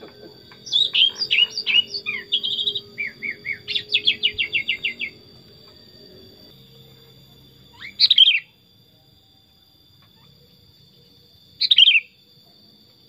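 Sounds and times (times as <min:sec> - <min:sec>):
bird singing whistled notes: 0:00.4 - 0:12.3.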